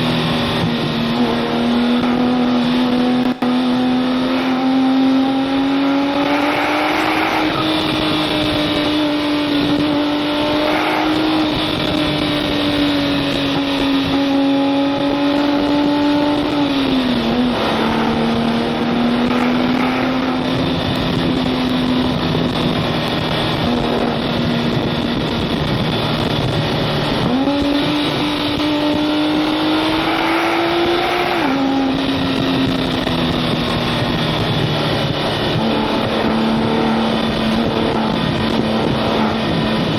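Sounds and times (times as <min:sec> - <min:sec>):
sports car engine running: 0:00.0 - 0:39.9
wind and road noise: 0:00.0 - 0:39.9.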